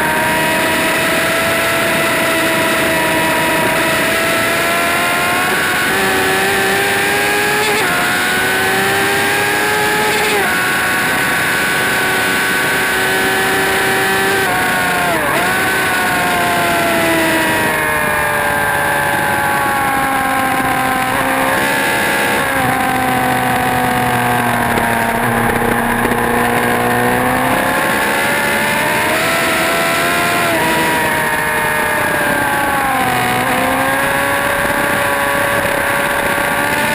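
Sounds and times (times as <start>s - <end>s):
motorcycle engine revving hard: 0.0s - 36.9s.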